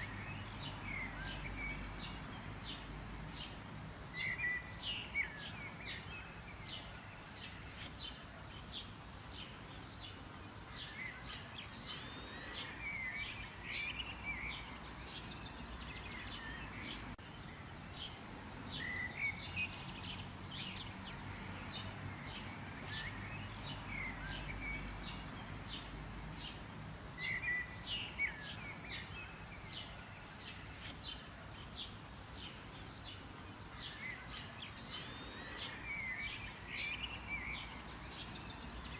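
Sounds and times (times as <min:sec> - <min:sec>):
birds chirping and singing: 0:04.2 - 0:38.9.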